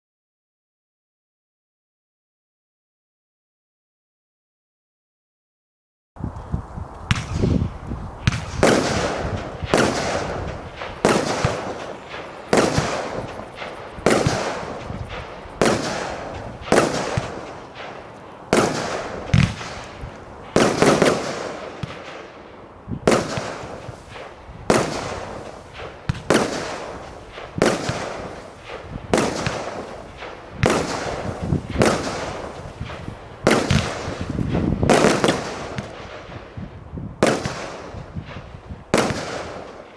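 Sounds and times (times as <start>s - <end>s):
fireworks bangs: 7.0s - 39.9s.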